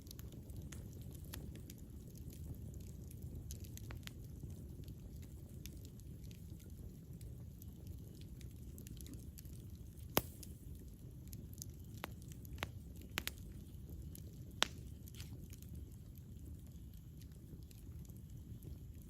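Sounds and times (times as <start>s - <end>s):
campfire rumble: 0.0s - 19.0s
fire crackling and popping: 0.0s - 19.0s.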